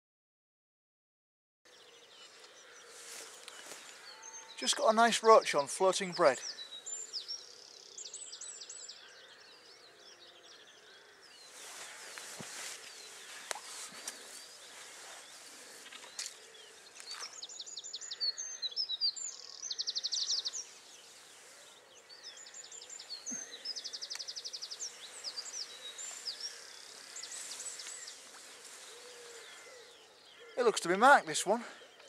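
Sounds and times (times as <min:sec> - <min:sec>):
songbird singing trills: 0:01.7 - 0:32.0.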